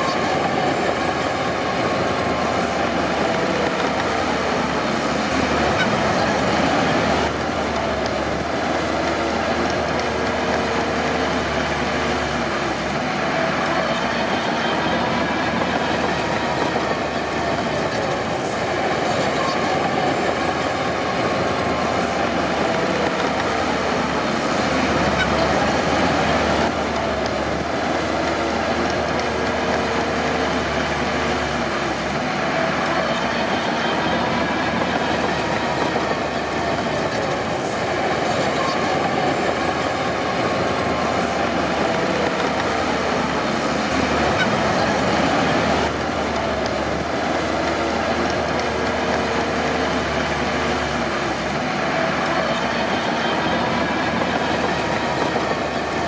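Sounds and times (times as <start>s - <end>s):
bulldozer engine running: 0.0s - 56.0s
steel tracks clattering and squealing: 0.0s - 56.0s.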